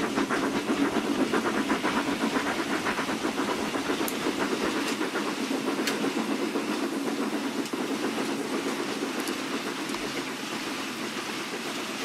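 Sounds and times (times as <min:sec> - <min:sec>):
model steam locomotive chuffing: 0:00.0 - 0:12.0
steady running hiss: 0:00.0 - 0:12.0.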